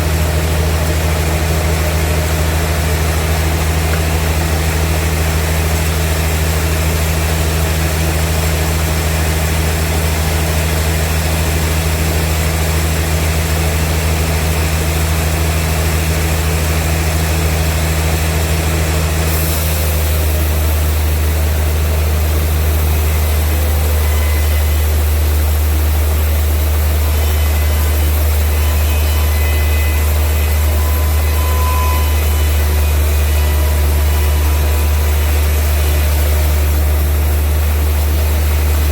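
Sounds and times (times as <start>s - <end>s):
machinery hiss: 0.0s - 38.9s
sawmill machinery drone: 0.0s - 38.9s.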